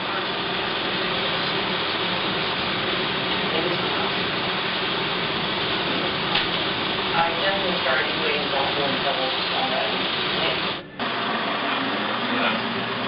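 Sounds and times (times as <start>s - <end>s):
film projector whirring: 0.0s - 13.0s.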